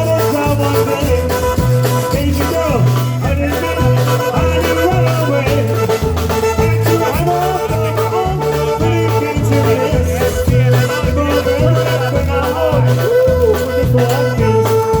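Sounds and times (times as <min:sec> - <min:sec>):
accordion notes: 0:00.0 - 0:15.0
bass line: 0:00.0 - 0:15.0
drum beat: 0:00.0 - 0:15.0
polka band playing: 0:00.0 - 0:15.0.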